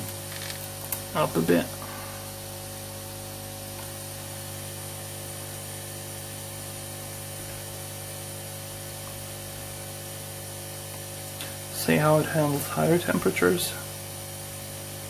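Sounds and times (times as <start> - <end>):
air pump hum: 0.0 - 15.0.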